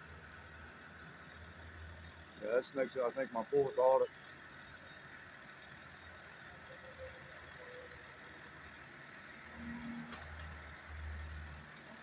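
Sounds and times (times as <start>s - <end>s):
outdoor street noise: 0.0s - 12.0s
truck engine idling: 0.0s - 12.0s.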